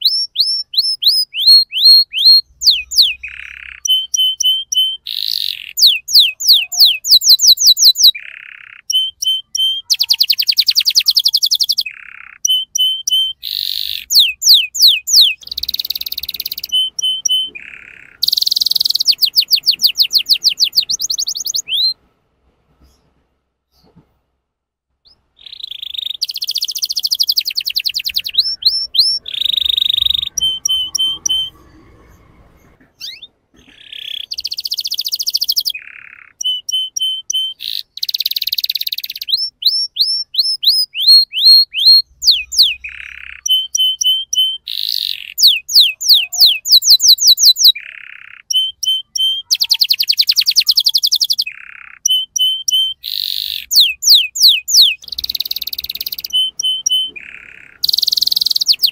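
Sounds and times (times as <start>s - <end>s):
canary singing: 0.0s - 22.0s, 25.0s - 58.9s.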